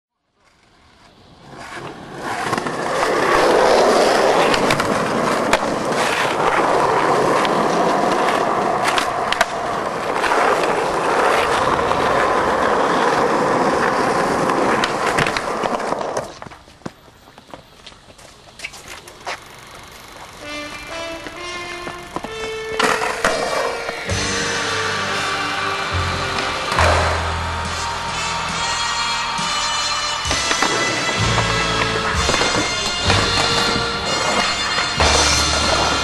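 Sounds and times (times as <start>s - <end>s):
skateboard wheels rolling on concrete: 0.1s - 36.0s
skateboard clacks: 0.4s - 24.1s, 30.2s - 36.0s.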